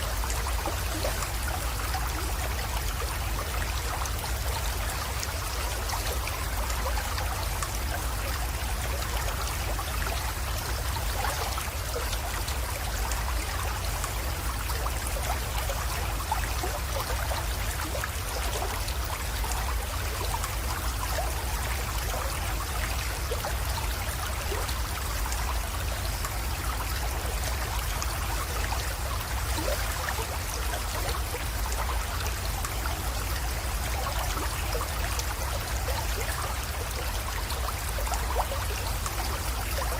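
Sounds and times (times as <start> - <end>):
creek trickling and splashing: 0.0 - 39.9.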